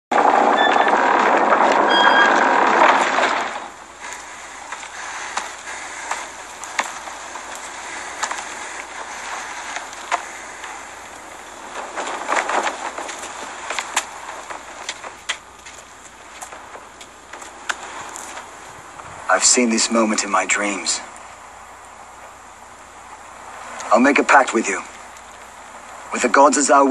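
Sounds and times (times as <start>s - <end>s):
loud dense rush: 0.1s - 26.9s
low steady hiss: 0.5s - 26.9s.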